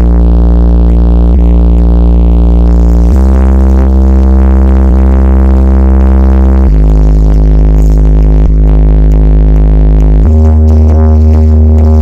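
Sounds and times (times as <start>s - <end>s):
loud electronic dance music: 0.0s - 12.0s.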